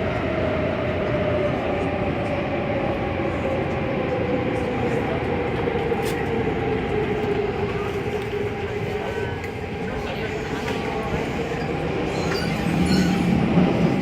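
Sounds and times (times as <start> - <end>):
train wheel and running noise: 0.0 - 14.0.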